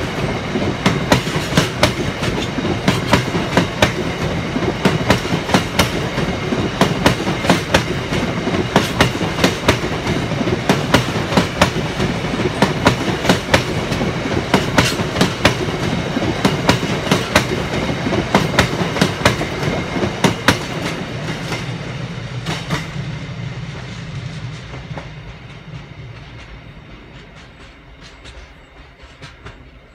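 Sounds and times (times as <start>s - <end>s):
train wheels clicking over rail joints: 0.0s - 21.8s, 22.4s - 23.0s, 23.7s - 29.9s
train rumble: 0.0s - 29.9s.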